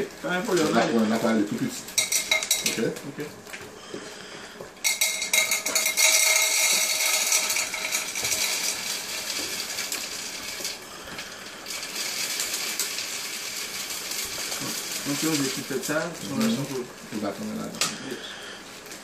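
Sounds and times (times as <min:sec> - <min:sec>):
pellets pouring into metal cylinder: 0:00.0 - 0:03.0, 0:04.8 - 0:19.0.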